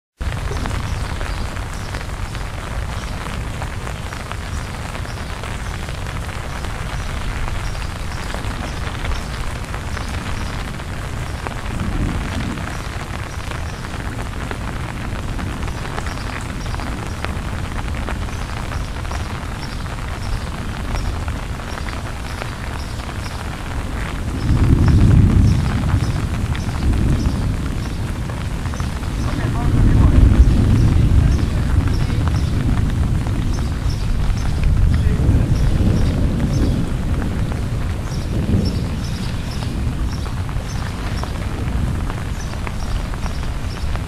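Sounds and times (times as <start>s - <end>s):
steady rain: 0.1s - 44.0s.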